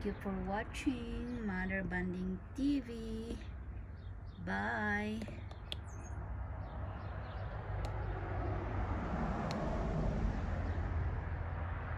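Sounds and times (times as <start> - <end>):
low outdoor rumble: 0.0 - 11.9.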